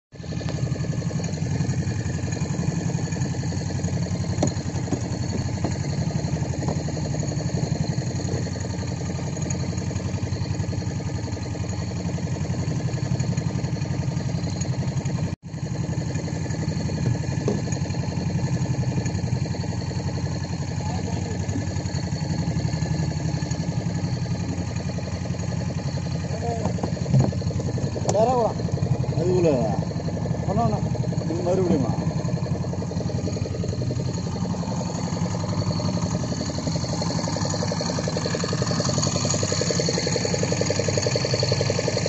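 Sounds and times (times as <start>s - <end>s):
boat engine idling: 0.1s - 42.0s.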